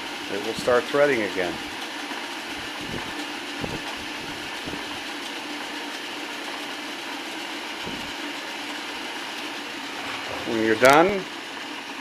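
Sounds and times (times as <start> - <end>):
constant motor hum: 0.0 - 11.6
lathe gear and belt noise: 0.0 - 12.0.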